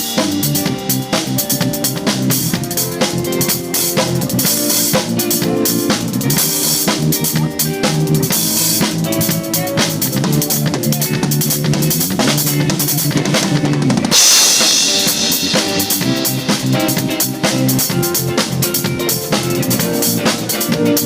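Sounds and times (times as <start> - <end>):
band instruments holding notes: 0.0 - 21.0
drum kit groove: 0.0 - 21.0.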